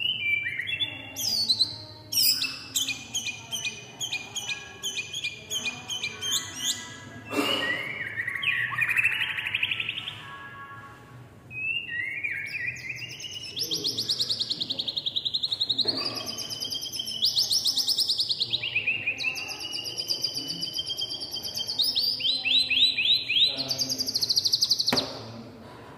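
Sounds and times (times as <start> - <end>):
bird singing trills and whistles: 0.0 - 10.2, 11.5 - 25.0.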